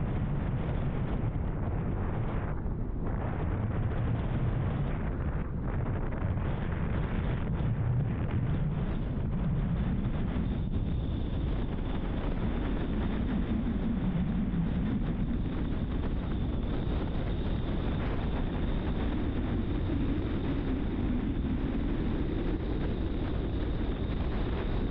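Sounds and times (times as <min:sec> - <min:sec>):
wind rush: 0:00.0 - 0:24.9.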